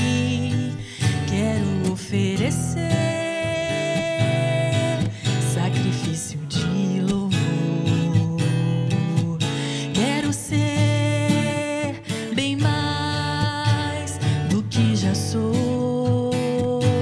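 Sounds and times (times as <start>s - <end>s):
acoustic guitar: 0.0s - 17.0s
person singing: 0.0s - 17.0s.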